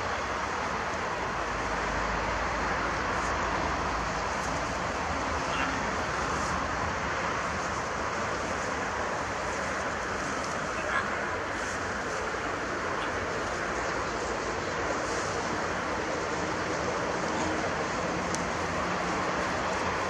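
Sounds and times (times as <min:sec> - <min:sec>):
steady outdoor rushing noise: 0:00.0 - 0:20.0.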